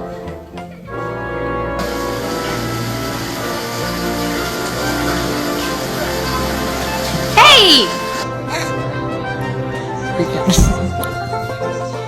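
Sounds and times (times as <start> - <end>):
background music with sustained tones: 0.0 - 12.0.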